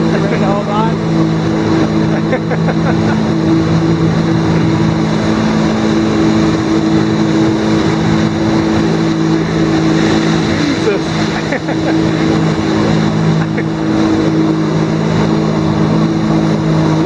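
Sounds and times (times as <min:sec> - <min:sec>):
personal watercraft engine running: 0:00.0 - 0:17.0
water jets spraying onto lake: 0:00.0 - 0:17.0.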